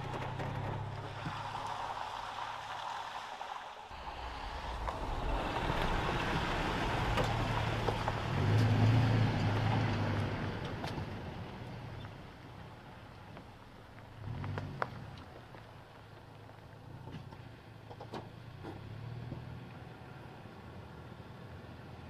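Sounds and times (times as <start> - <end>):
pickup engine hum: 0.0 - 3.0, 3.9 - 22.0
tyres crunching on gravel: 0.0 - 18.0.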